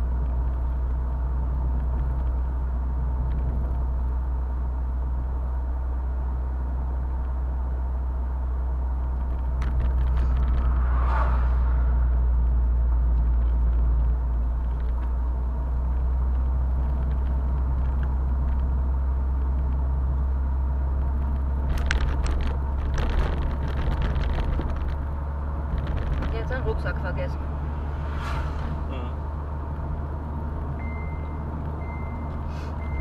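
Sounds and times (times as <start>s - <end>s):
car engine and tyres rumbling: 0.0s - 33.0s.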